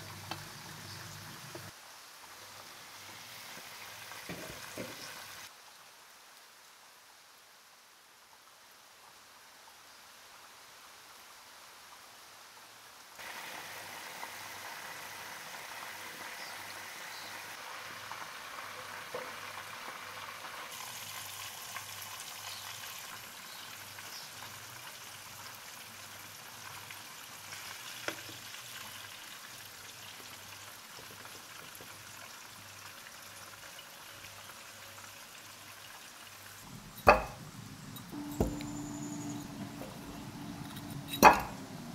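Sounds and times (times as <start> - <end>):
oil sizzling in deep-frying: 0.0 - 6.1, 13.0 - 41.9.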